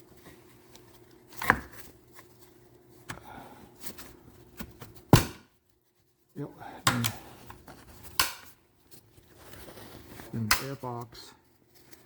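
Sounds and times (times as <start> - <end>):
soft handling rustles: 0.0 - 12.0.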